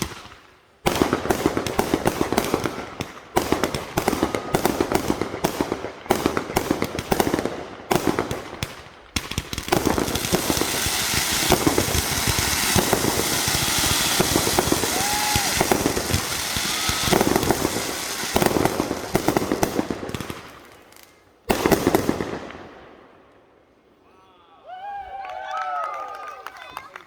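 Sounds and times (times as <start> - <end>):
fireworks crackling: 0.0 - 22.8.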